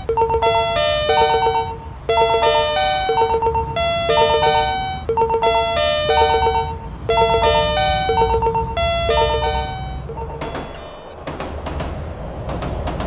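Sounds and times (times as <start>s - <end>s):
electronic chime melody: 0.0s - 11.0s.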